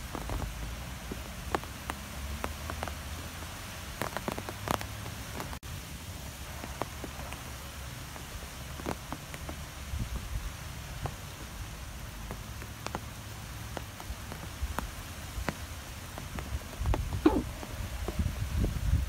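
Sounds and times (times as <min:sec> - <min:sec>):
rain hissing: 0:00.0 - 0:19.0
raindrops ticking: 0:00.0 - 0:19.0.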